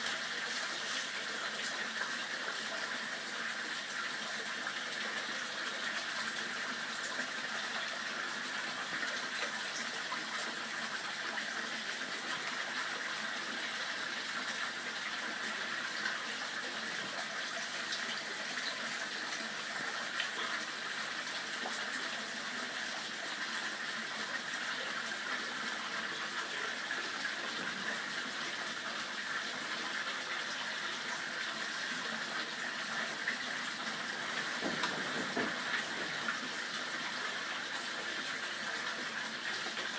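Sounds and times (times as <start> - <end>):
waterfall pouring into pond: 0.0 - 39.9.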